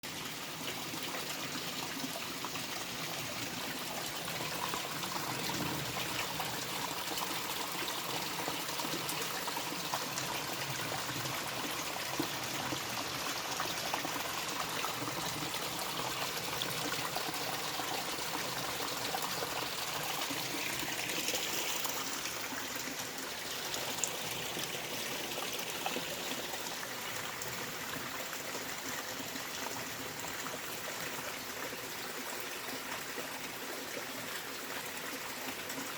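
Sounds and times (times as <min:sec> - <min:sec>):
stream water trickling over stones: 0:00.0 - 0:35.9.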